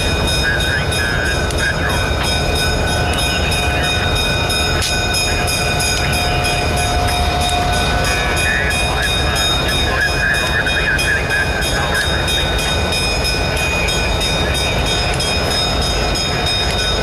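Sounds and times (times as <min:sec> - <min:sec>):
diesel locomotive engine rumble: 0:00.0 - 0:17.0
high steady tones: 0:00.0 - 0:17.0.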